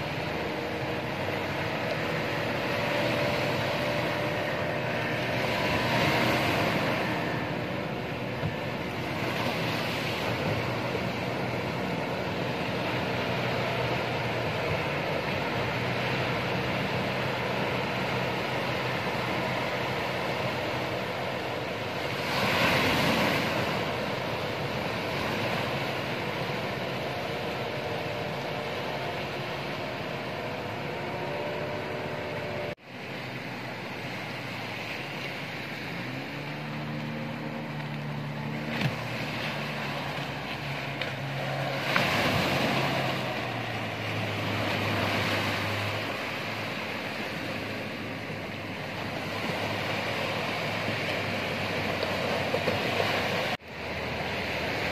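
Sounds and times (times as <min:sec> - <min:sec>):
boat engine humming: 0:00.0 - 0:54.9
ocean surf breaking on shore: 0:00.0 - 0:54.9.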